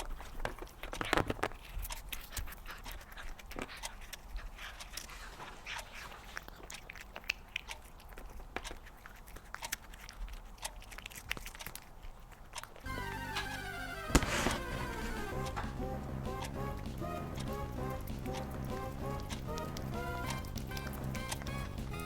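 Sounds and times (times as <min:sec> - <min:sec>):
cat chewing and licking: 0:00.0 - 0:12.9, 0:14.2 - 0:22.0.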